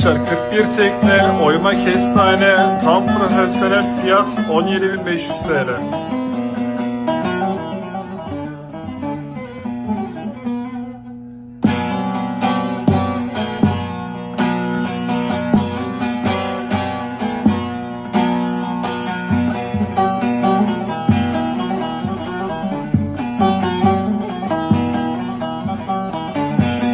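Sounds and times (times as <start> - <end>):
lute picked and strummed: 0.0 - 26.9.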